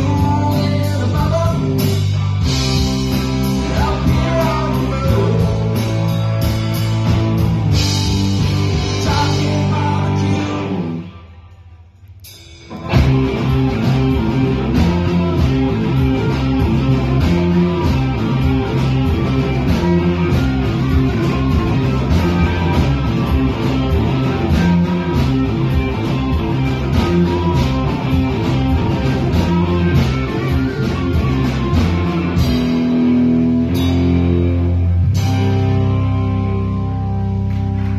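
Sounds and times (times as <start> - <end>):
low bass line: 0.0 - 11.2, 12.1 - 37.9
electric guitars: 0.0 - 11.6, 12.7 - 37.9
drums: 0.0 - 37.9.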